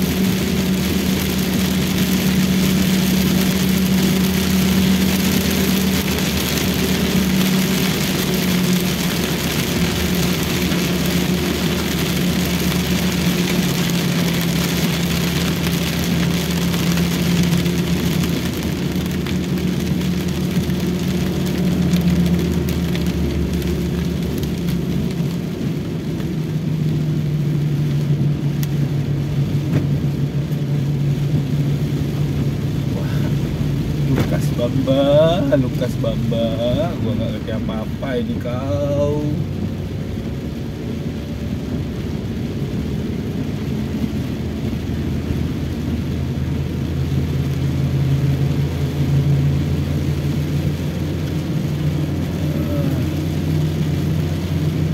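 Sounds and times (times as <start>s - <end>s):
car engine hum: 0.0s - 54.9s
rain and wet tyres hissing: 0.0s - 54.9s.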